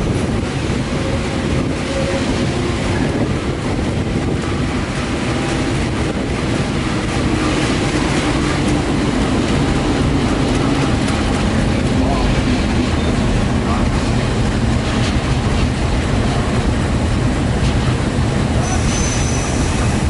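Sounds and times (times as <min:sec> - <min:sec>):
diesel engine drone: 0:00.0 - 0:18.7
train wheels rumbling on rails: 0:00.0 - 0:20.0.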